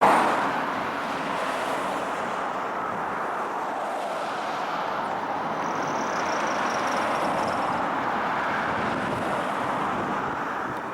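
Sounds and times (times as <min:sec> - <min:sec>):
road traffic hiss: 0:00.0 - 0:10.9.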